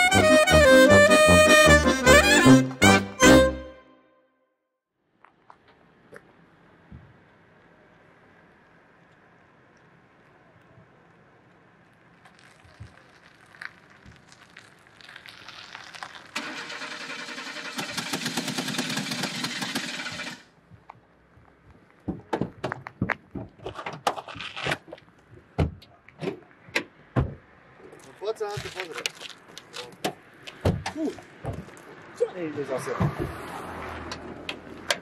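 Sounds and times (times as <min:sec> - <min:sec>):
car engine and road noise: 0:05.1 - 0:35.0.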